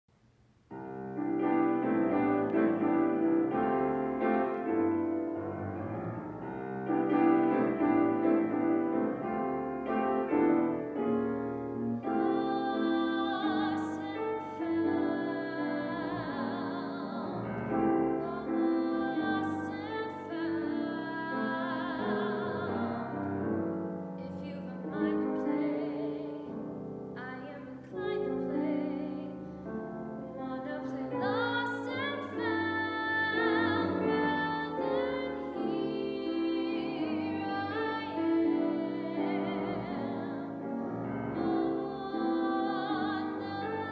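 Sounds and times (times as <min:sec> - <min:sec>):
grand piano: 0:00.1 - 0:43.9.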